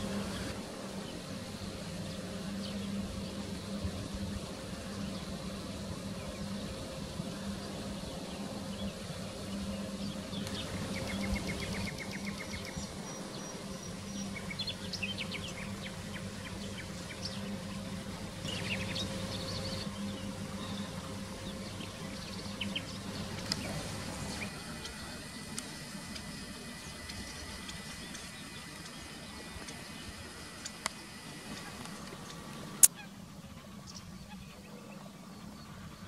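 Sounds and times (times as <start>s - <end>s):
steady low hum: 0.0s - 36.0s
grebes calling: 4.7s - 35.9s.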